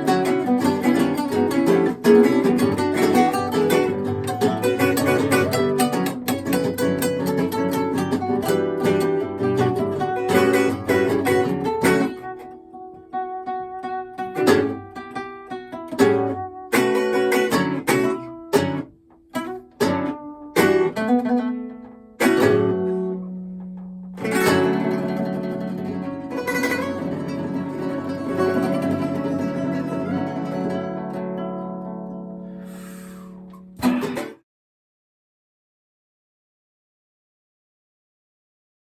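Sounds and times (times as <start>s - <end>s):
acoustic guitars playing: 0.0s - 34.4s.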